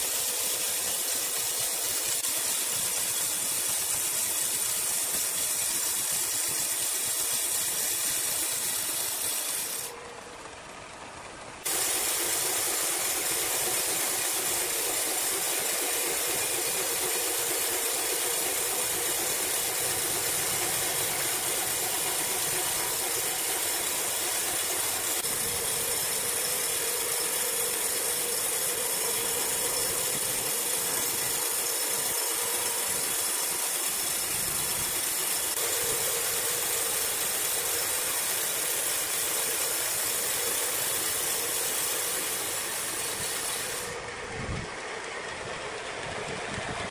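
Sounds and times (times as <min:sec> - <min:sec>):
band saw cutting log: 0:00.0 - 0:10.1, 0:11.6 - 0:44.2.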